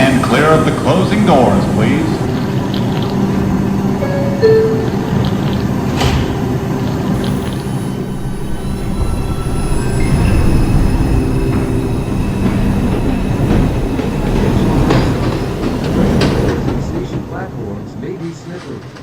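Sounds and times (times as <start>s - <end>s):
traction motors whining: 0.0s - 17.1s
train wheels rumbling on rails: 0.0s - 19.0s.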